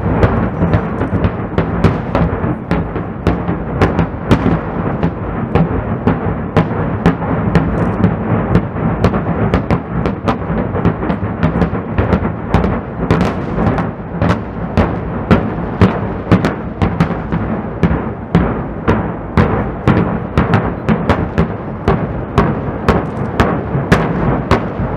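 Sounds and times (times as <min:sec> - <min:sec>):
distant rock blasting detonations: 0:00.0 - 0:24.9.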